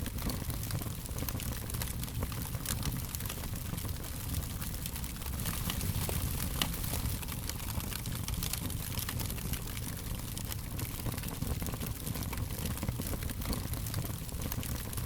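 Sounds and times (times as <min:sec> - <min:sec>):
fire crackling and popping: 0:00.0 - 0:15.0
low rumble of fire: 0:00.0 - 0:15.0.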